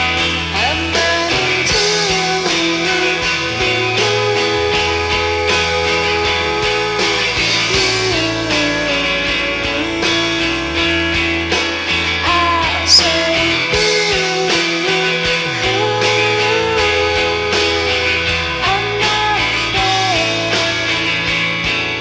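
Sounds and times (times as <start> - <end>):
rock music from a vinyl record: 0.0 - 22.0.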